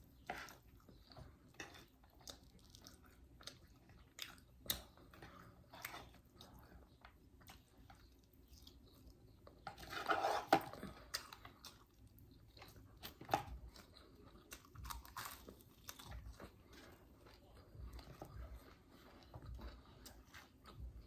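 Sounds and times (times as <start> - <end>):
chewing and wet mouth sounds: 0.0 - 21.0.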